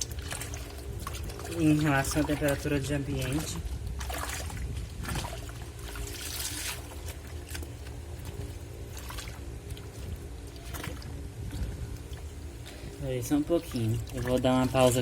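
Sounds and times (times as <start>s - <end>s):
water splashing into machine tub: 0.0s - 12.4s, 13.0s - 15.0s
low machine hum: 0.0s - 15.0s.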